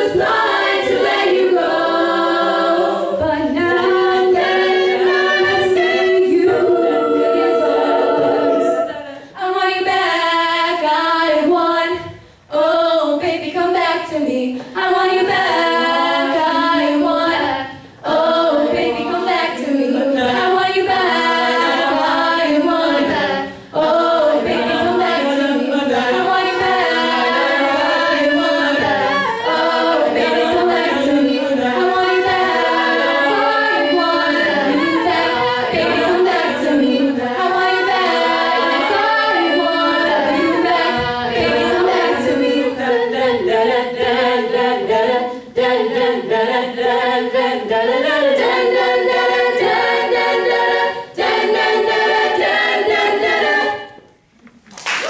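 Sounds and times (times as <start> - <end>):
female a cappella group singing: 0.0 - 54.4.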